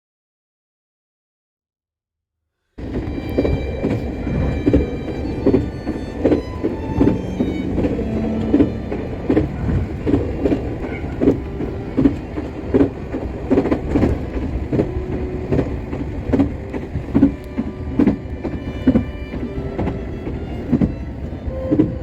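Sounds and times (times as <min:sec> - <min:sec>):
low train rumble: 0:02.8 - 0:22.0
train wheels clacking over rail joints: 0:02.8 - 0:22.0.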